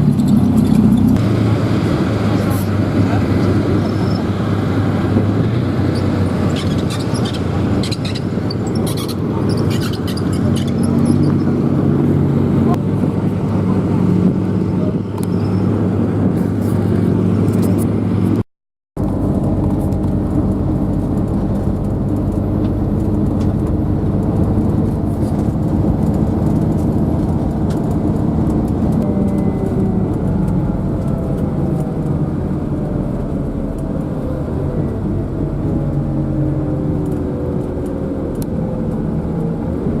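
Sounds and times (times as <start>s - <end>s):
tank engine rumbling: 0.0s - 18.4s, 19.0s - 40.0s.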